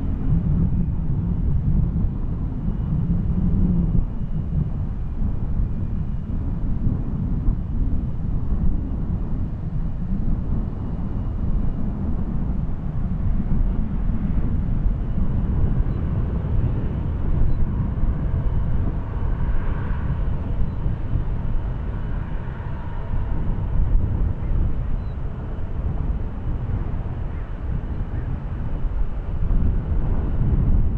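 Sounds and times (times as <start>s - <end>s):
deep jet engine rumble: 0.0s - 30.9s
faint high jet whine: 0.0s - 30.9s.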